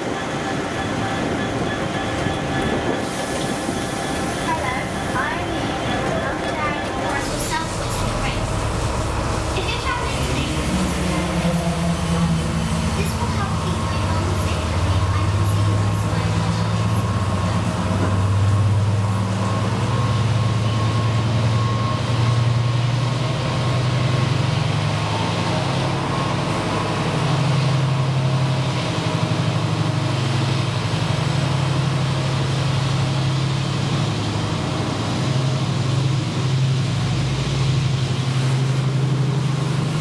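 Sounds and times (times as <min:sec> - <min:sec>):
diesel locomotive engine drone: 0:00.0 - 0:40.0.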